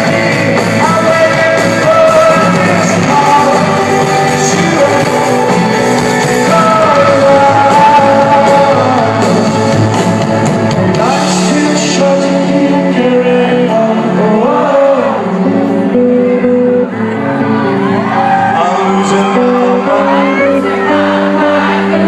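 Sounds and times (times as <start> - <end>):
lead vocal singing: 0.0 - 22.0
rock band playing live: 0.0 - 22.0.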